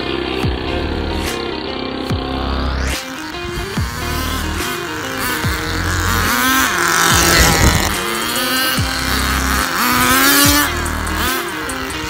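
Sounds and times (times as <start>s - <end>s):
small nitro engine revving: 0.0s - 12.0s.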